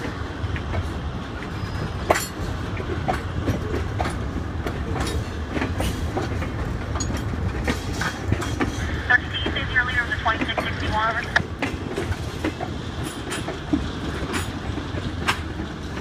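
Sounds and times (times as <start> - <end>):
freight cars rumbling: 0.0 - 16.0
wheels clanking on rails: 0.0 - 16.0.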